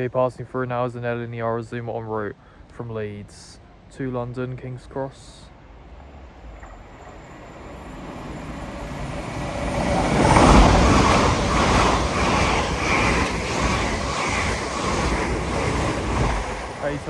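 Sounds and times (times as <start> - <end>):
electric train passing at speed: 2.9 - 17.0.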